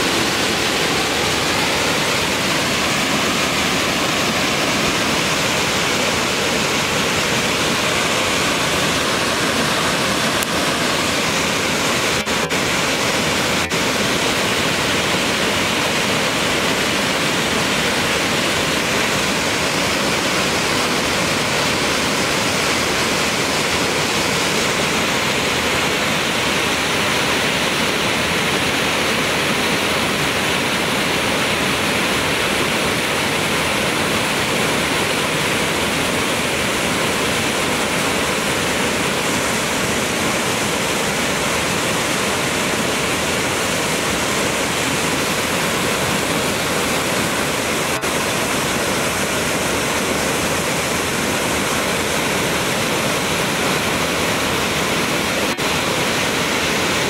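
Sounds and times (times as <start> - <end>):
waterfall rushing over rock: 0.0 - 57.0.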